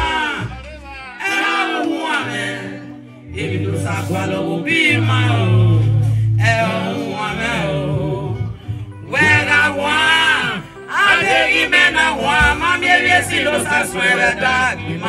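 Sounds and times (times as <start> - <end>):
low bass notes: 0.0 - 1.2, 2.2 - 15.0
backing singers: 0.0 - 15.0
woman singing gospel: 1.3 - 15.0.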